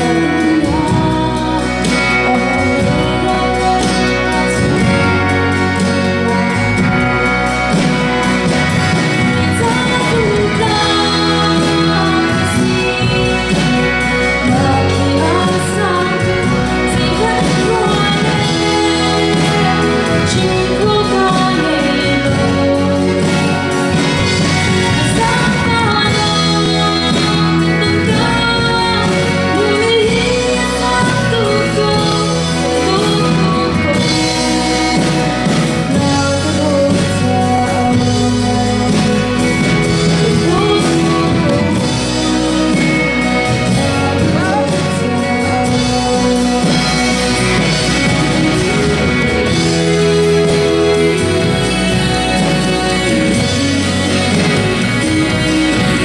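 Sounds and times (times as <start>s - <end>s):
instrumental accompaniment: 0.0s - 56.0s
woman singing into microphone: 0.0s - 56.0s.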